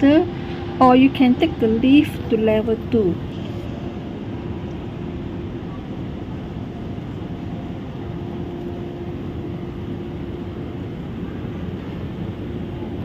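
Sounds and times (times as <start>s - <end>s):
airport terminal hall ambience: 0.0s - 13.0s.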